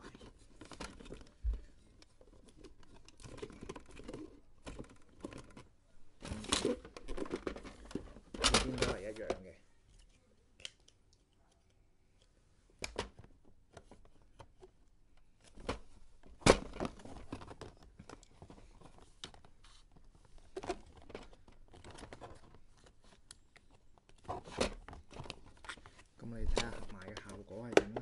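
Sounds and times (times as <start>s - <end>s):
plastic parts clicking and tapping: 0.1s - 28.0s.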